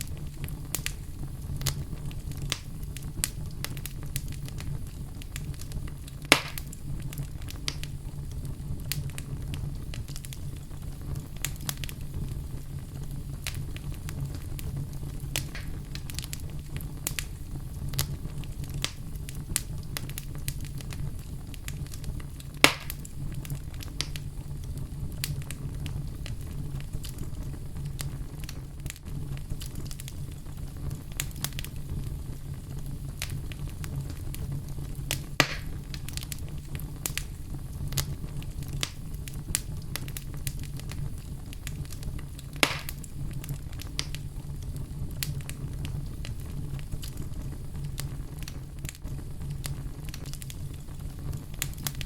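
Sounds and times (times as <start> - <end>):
fireplace fire crackling: 0.0 - 52.0
loud fire pops: 0.0 - 52.0.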